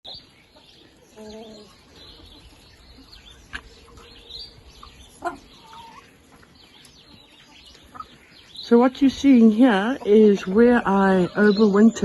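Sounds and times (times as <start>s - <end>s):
chickens clucking: 0.0s - 12.0s
small birds chirping faintly: 0.1s - 12.0s.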